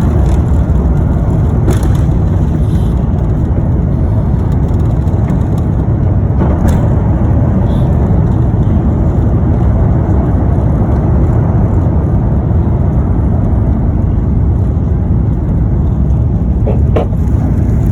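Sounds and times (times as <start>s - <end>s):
jet engines roaring at takeoff: 0.0s - 17.9s.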